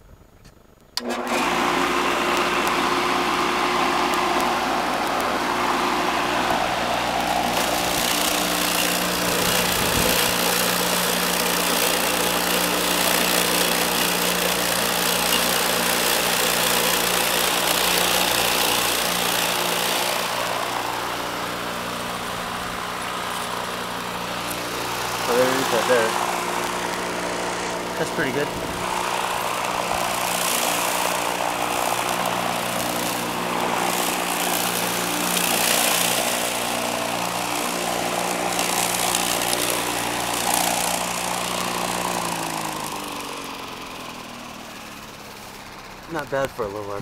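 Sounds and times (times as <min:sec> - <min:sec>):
mower blade cutting grass: 0:00.5 - 0:47.0
electric motor humming: 0:01.0 - 0:47.0.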